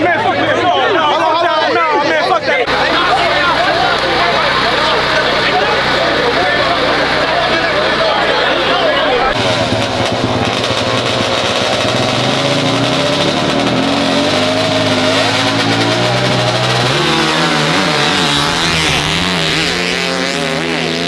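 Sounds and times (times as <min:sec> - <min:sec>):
racing engines revving hard: 0:02.6 - 0:21.0.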